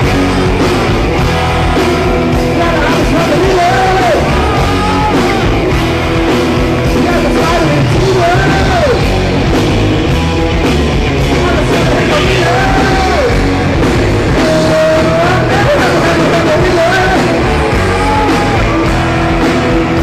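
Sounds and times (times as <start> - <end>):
person singing and shouting: 0.0 - 5.8, 6.8 - 9.2, 11.2 - 13.5, 14.3 - 20.0
rock band playing live: 0.0 - 20.0.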